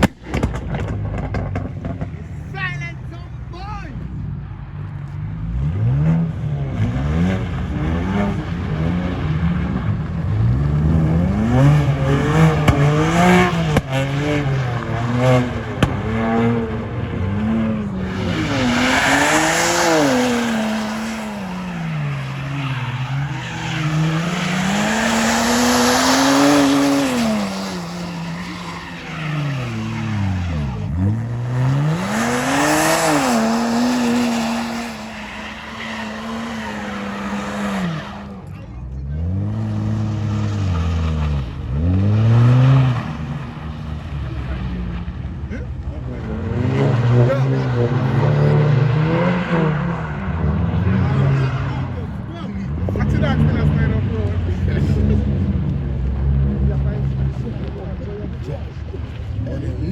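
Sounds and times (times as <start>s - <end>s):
car engine revving: 0.0s - 59.9s
tyres squealing and skidding: 6.9s - 55.3s.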